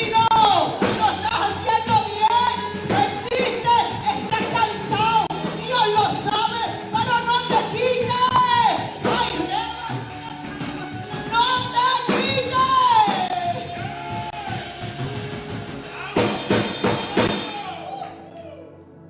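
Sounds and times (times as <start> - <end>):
worship band instruments: 0.0 - 19.0.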